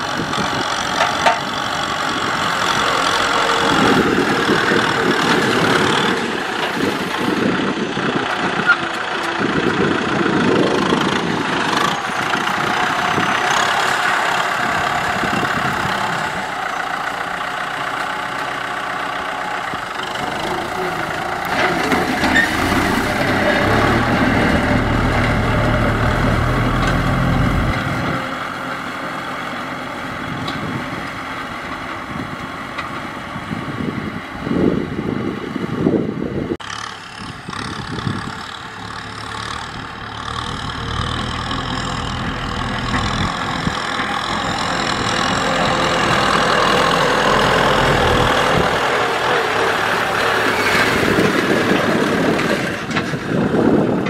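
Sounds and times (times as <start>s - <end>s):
disc plough through dry ground: 0.0s - 34.5s, 36.6s - 54.0s
tractor diesel engine under load: 0.0s - 54.0s.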